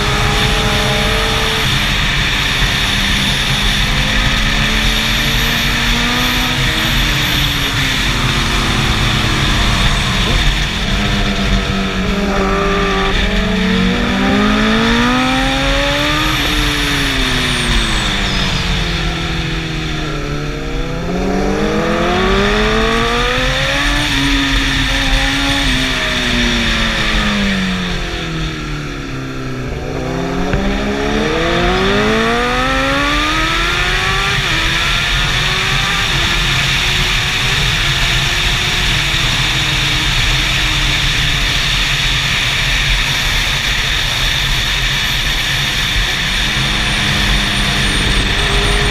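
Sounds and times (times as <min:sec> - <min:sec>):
rushing noise: 0:00.0 - 0:33.7, 0:36.9 - 0:48.9
motorcycle engine accelerating: 0:00.0 - 0:48.9.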